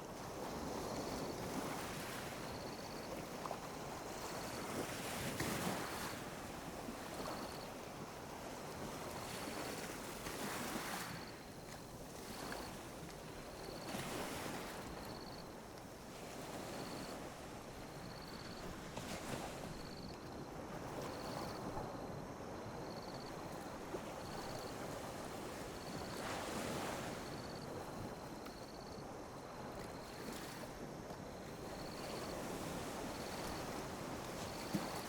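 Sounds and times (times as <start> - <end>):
sea waves lapping on a beach: 0.0 - 35.0.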